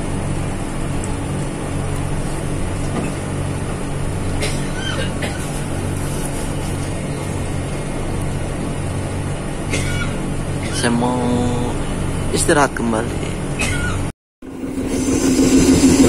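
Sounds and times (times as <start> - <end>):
low hum: 0.0 - 16.0
train wheels rumbling on rails: 0.0 - 16.0.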